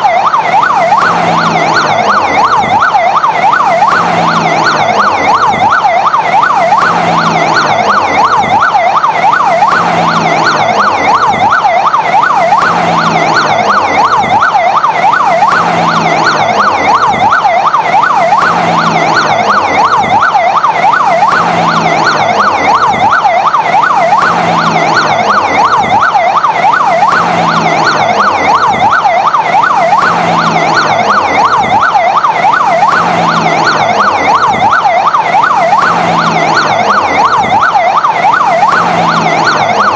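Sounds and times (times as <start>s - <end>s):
fire engine siren yelping: 0.0s - 39.9s.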